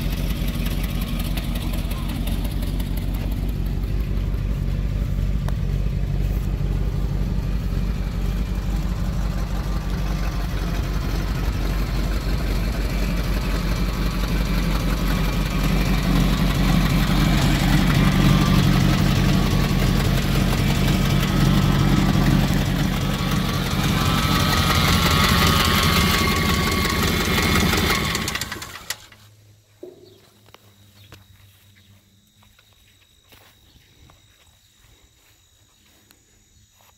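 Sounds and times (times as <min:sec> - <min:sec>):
truck engine idling: 0:00.0 - 0:30.2.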